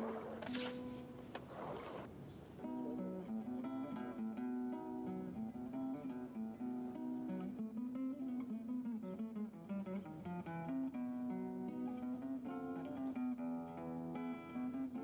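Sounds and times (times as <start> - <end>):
plucked guitar music: 2.6 - 15.0.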